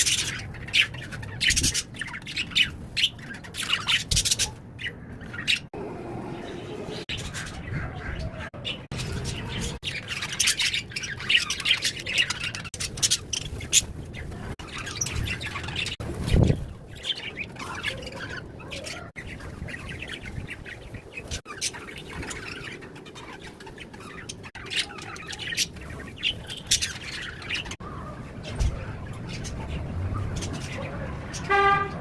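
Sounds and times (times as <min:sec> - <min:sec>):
birds chirping and squawking: 0:00.0 - 0:32.0.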